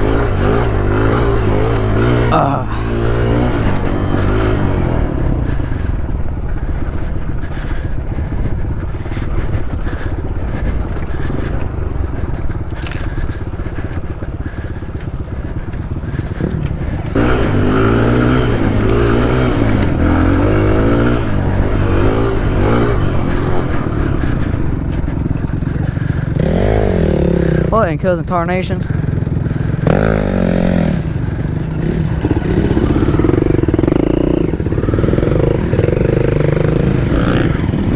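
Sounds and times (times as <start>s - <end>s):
motorcycle engine revving: 0.0s - 37.9s
rough rumbling noise: 0.0s - 37.9s.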